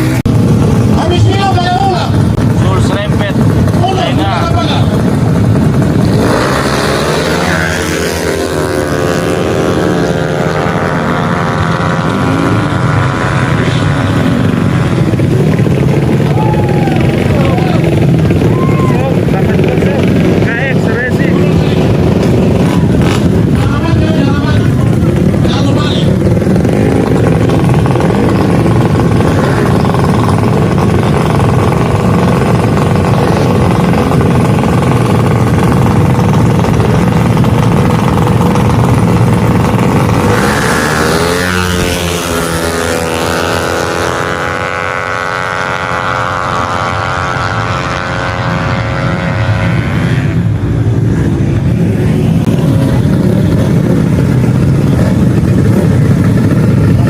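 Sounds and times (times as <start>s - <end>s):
scooter engines running loud: 0.0s - 57.0s
engine revving high: 2.8s - 57.0s.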